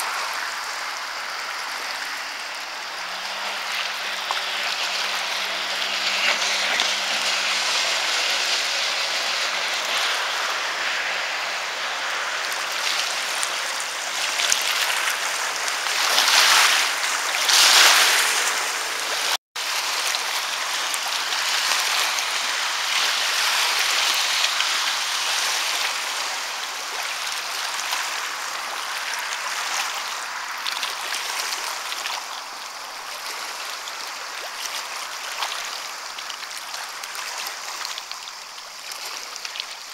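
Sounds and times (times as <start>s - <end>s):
distant watercraft engine: 0.0s - 39.9s
small waves lapping on pebbles: 0.0s - 39.9s.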